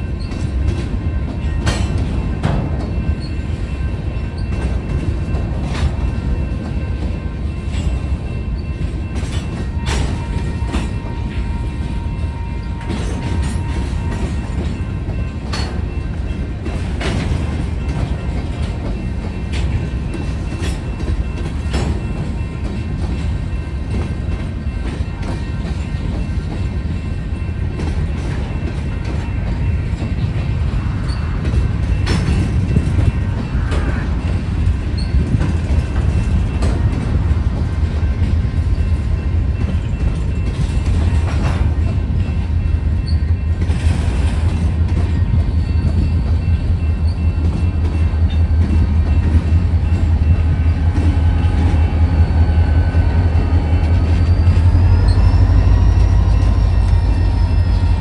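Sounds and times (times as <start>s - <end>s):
crossing bell ringing: 0.0s - 58.0s
freight train rumbling: 0.0s - 58.0s.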